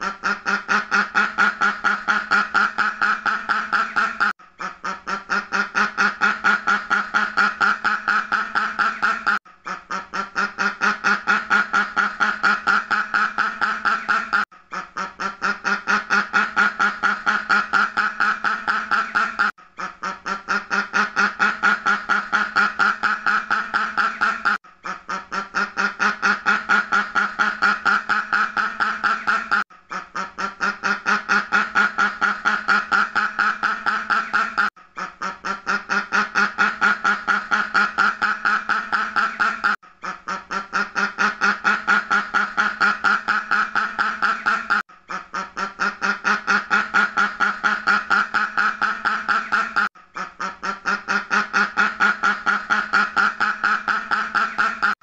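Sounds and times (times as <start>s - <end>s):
duck quacking rapidly: 0.0s - 55.0s.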